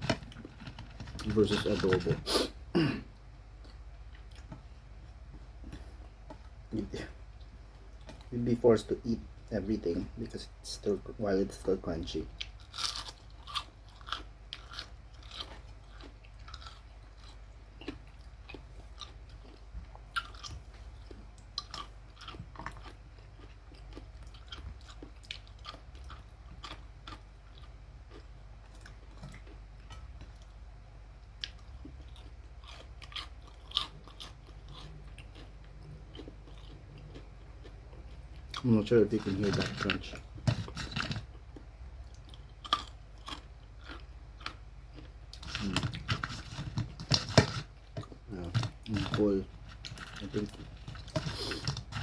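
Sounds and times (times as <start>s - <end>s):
crunching and chewing fried chicken: 0.0s - 52.0s.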